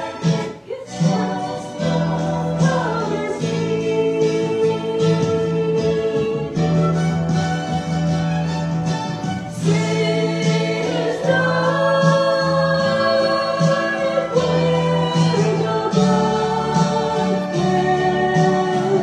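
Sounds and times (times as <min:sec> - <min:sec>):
woman singing gospel song: 0:00.0 - 0:06.7, 0:09.6 - 0:19.0
instrumental accompaniment: 0:00.0 - 0:19.0.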